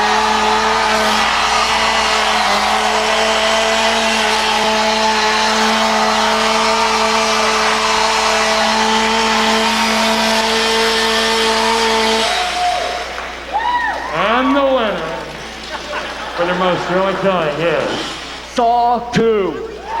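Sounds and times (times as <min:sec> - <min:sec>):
chainsaw at full throttle: 0:00.0 - 0:18.6.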